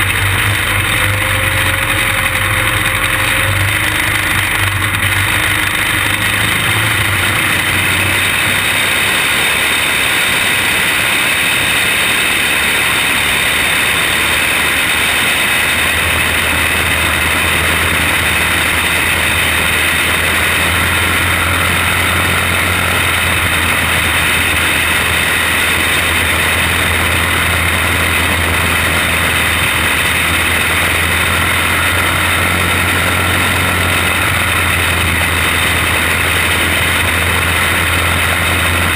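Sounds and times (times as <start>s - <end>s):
small race car engine drone: 0.0s - 38.9s.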